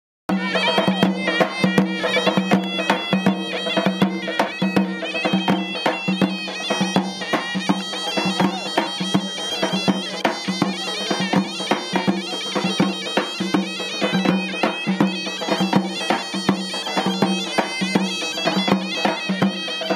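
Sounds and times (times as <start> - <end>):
double-reed shawm melody: 0.3 - 19.9
hand drum rhythm: 0.3 - 19.9.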